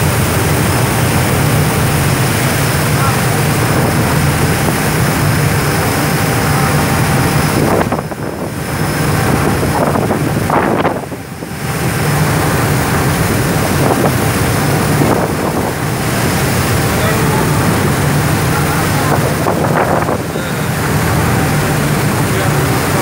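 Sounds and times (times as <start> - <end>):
boat engine running: 0.0 - 23.0
rush of boat wake: 0.0 - 23.0
wind buffeting microphone: 0.0 - 23.0.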